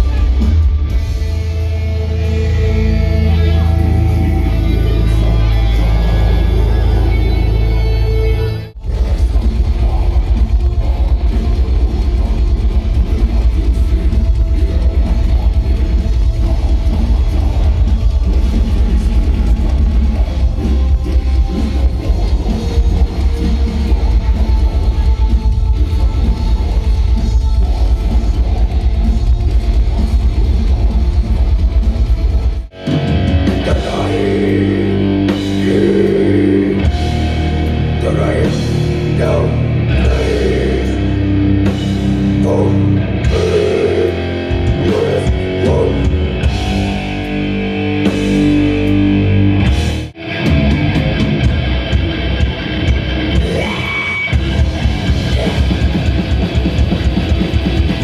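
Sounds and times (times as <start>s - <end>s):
live heavy metal music: 0.0s - 58.0s.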